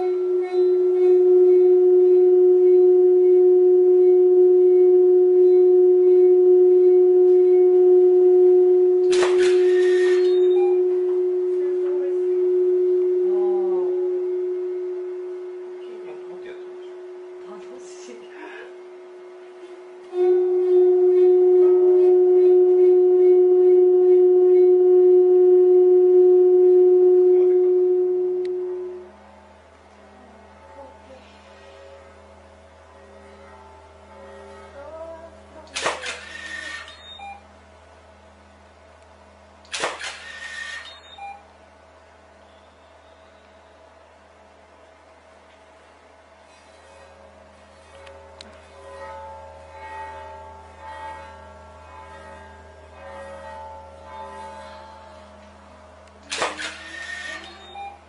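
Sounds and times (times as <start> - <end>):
vibrating metal plate pure tone: 0.0 - 58.0.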